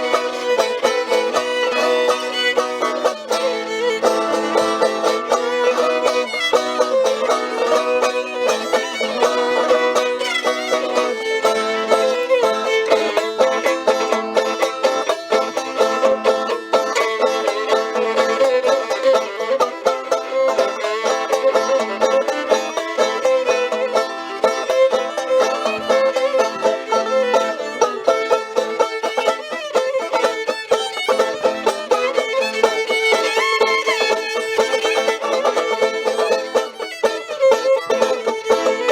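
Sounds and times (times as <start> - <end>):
fiddle and banjo playing: 0.0 - 38.9.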